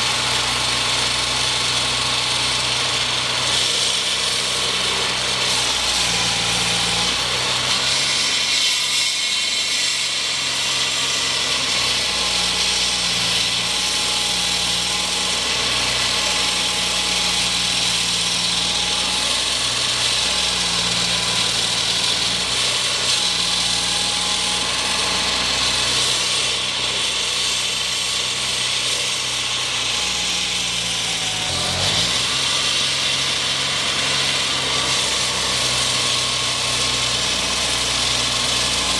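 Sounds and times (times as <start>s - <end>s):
construction machinery engine hum: 0.0s - 38.9s.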